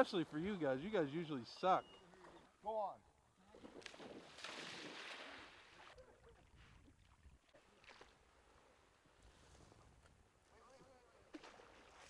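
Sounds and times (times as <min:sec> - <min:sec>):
water splashing: 0:00.0 - 0:08.8, 0:11.1 - 0:12.0.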